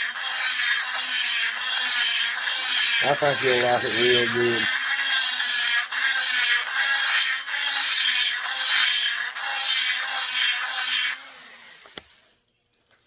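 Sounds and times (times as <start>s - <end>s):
rotary tool grinding metal: 0.0s - 12.3s.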